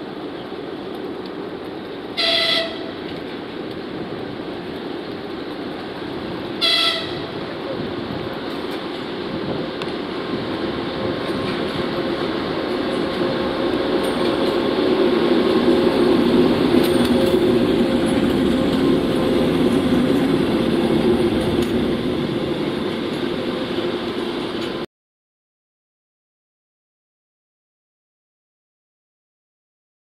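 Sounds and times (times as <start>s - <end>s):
diesel locomotive engine droning: 0.0s - 24.9s.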